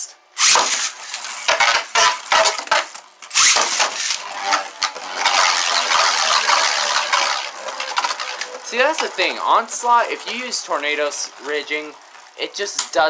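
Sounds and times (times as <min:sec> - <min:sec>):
spinning tops scraping and whirring: 0:00.4 - 0:13.0.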